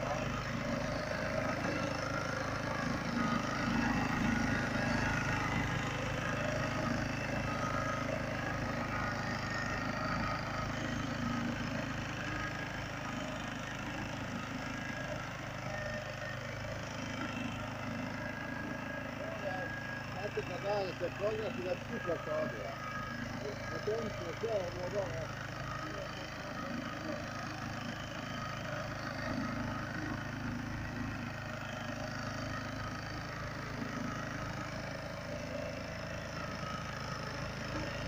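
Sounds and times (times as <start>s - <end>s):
tractor engine running under load: 0.0s - 38.0s.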